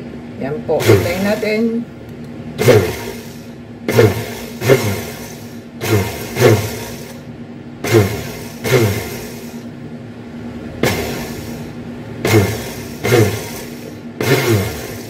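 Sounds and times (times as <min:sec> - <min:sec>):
blender motor pulsing: 0:00.8 - 0:01.7, 0:02.6 - 0:09.7, 0:10.8 - 0:15.0.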